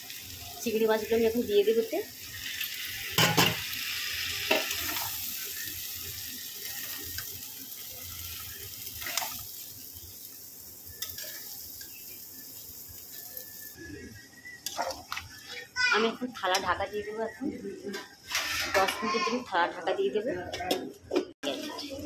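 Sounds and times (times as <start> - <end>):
food sizzling in a pan: 0.0 - 20.3, 21.4 - 22.0.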